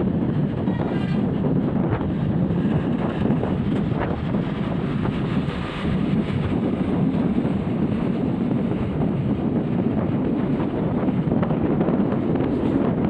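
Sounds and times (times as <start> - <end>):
road and engine noise: 0.0 - 13.0
wind buffeting microphone: 0.0 - 13.0.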